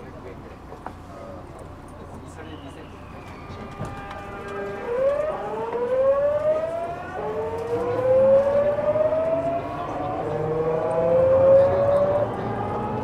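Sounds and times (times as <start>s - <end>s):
electric train motor whine: 2.6s - 13.0s.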